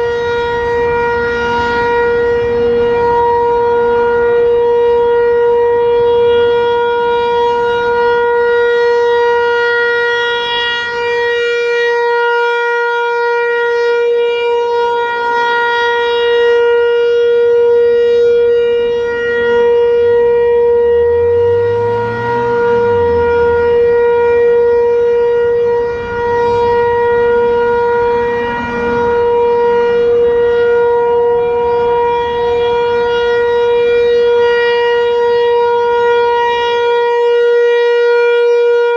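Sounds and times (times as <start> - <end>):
rotating warning siren tone: 0.0 - 38.9.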